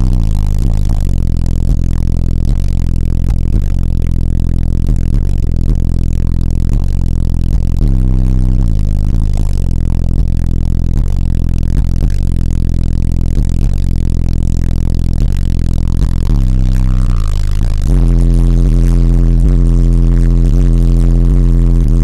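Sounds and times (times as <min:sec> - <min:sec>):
car engine drone from inside cabin: 0:00.0 - 0:22.0.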